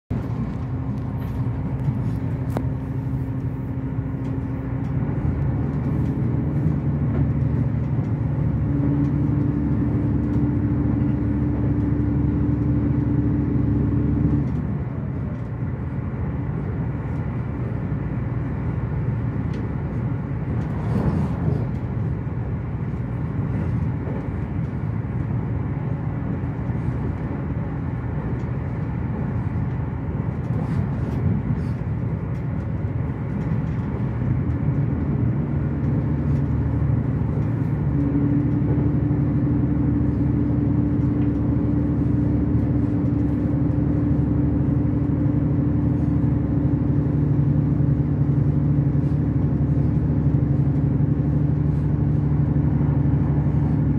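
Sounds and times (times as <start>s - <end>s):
low drive hum: 0.1s - 53.9s
rumble of wheels on track: 0.1s - 53.9s.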